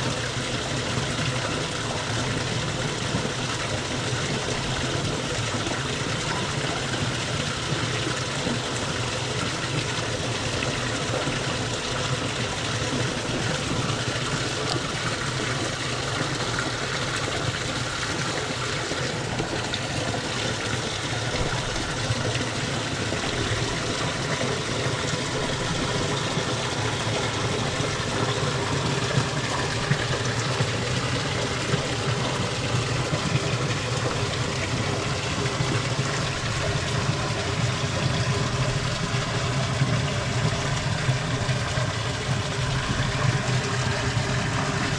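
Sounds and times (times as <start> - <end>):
water running in a channel: 0.0 - 44.9.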